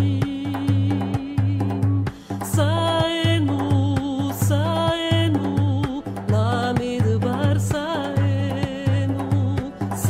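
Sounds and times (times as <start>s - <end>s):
person singing: 0.0s - 10.0s
plucked string instruments: 0.0s - 10.0s.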